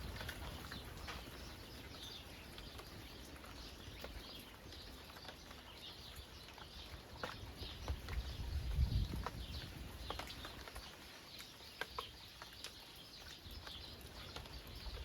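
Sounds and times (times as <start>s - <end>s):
light rain falling: 0.0s - 15.0s
sharp drip ticks: 0.0s - 15.0s
small birds chirping: 0.0s - 15.0s.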